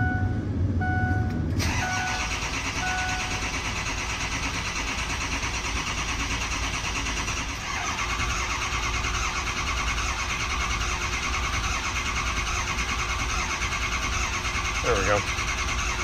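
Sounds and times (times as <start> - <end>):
engine starter cranking: 1.6 - 16.0.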